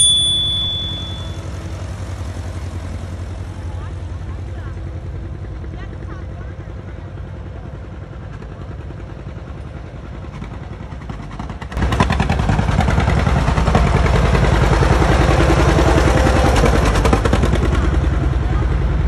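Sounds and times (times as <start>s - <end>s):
tractor engine driving by: 0.0s - 19.0s.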